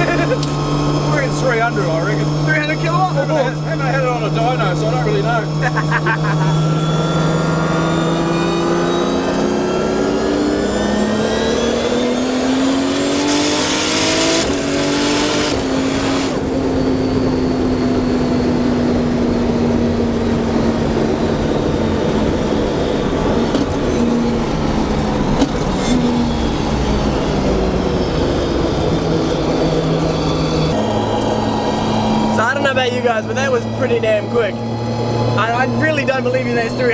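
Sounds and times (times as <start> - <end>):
car engine accelerating: 0.0 - 36.9.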